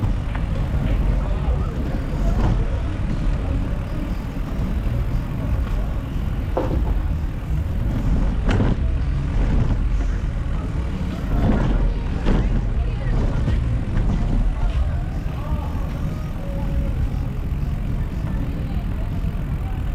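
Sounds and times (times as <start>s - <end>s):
street traffic rumble: 0.0s - 19.9s.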